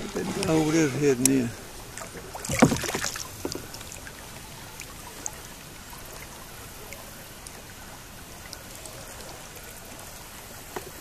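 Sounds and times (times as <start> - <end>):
water lapping around kayak: 0.0 - 11.0
small water drips: 1.8 - 11.0.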